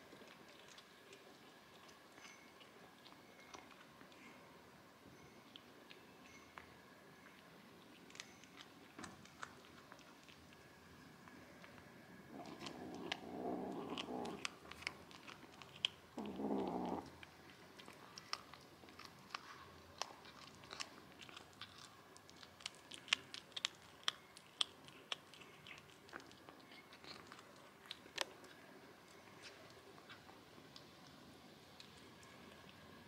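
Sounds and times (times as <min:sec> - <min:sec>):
kitten crunching a mouse: 0:00.0 - 0:33.0.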